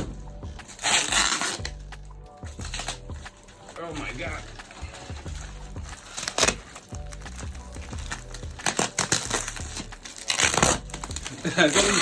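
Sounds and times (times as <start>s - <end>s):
parcel packaging crunching: 0.6s - 12.0s.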